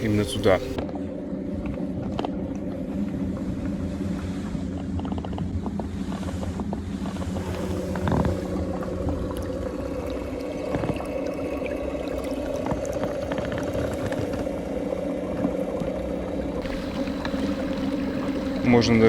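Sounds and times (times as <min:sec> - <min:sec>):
electric trolling motor humming: 0:00.0 - 0:19.0
water and wind rumble: 0:00.0 - 0:19.0.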